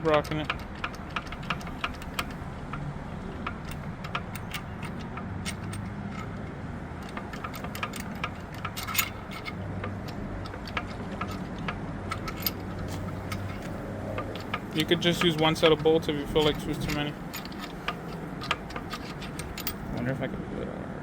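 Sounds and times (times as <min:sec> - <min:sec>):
light metallic clicks and taps: 0:00.0 - 0:20.3.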